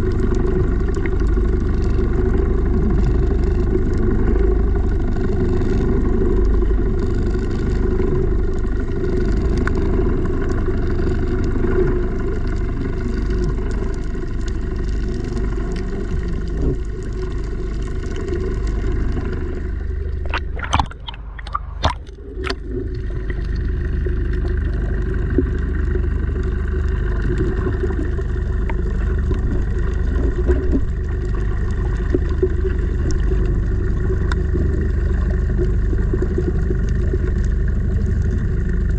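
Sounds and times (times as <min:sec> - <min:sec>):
underwater rumble: 0:00.0 - 0:38.9.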